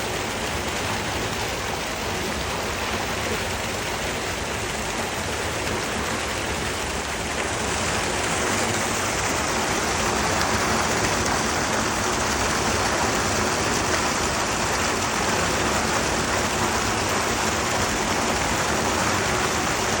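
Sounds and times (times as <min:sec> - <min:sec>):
water rushing through a channel: 0:00.0 - 0:20.0.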